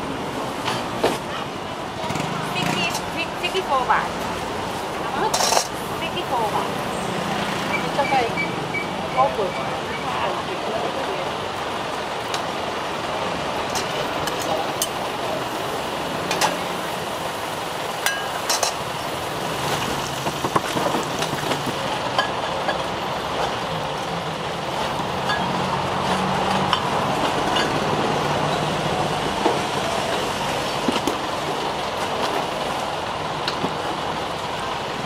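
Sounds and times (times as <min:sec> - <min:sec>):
street traffic: 0:00.0 - 0:35.0.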